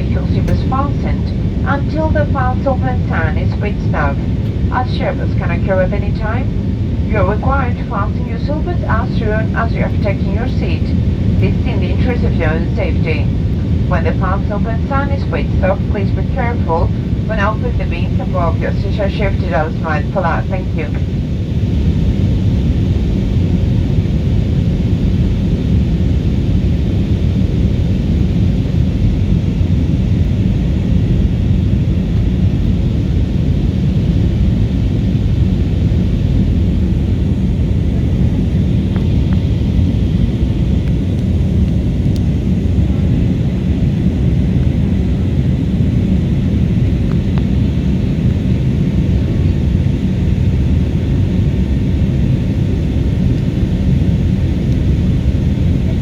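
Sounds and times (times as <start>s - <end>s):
airliner cabin roar: 0.0s - 56.0s.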